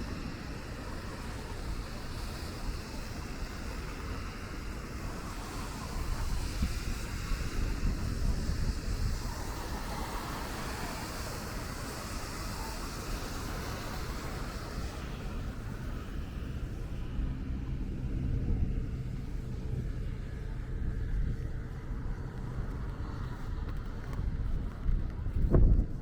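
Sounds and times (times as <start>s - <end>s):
rain hiss: 0.0s - 25.3s
traffic on wet streets: 0.0s - 26.0s.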